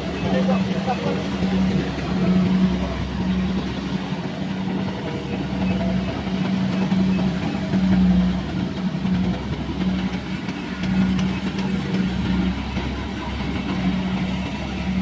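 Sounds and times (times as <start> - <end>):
combine harvester engine hum: 0.0 - 15.0
machinery clatter: 0.0 - 15.0.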